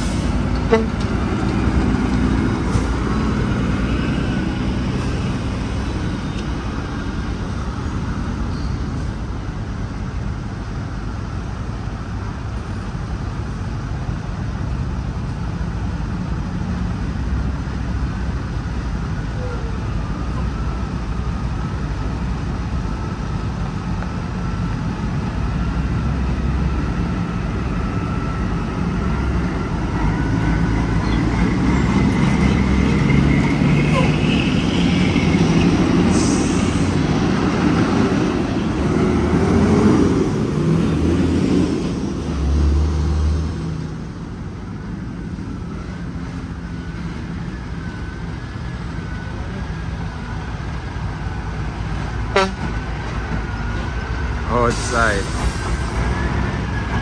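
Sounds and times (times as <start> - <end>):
truck diesel engine rumbling: 0.0 - 57.0.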